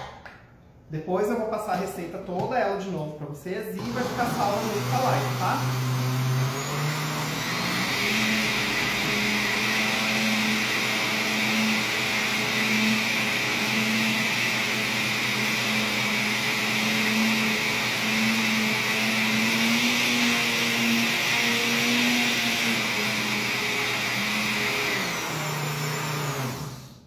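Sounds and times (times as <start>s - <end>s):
blender running: 3.8s - 27.0s.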